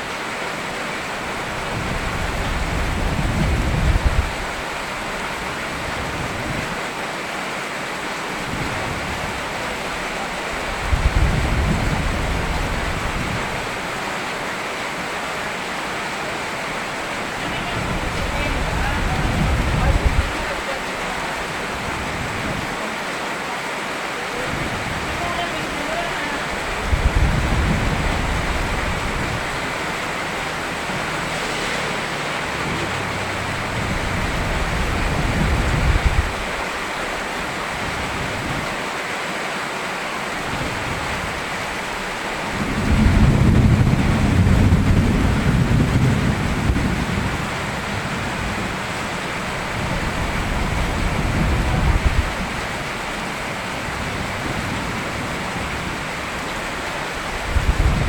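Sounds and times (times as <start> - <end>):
steady rain: 0.0 - 58.0
thunder rumbling: 1.3 - 6.8, 8.5 - 14.0, 16.6 - 22.7, 24.5 - 38.6, 40.4 - 58.0.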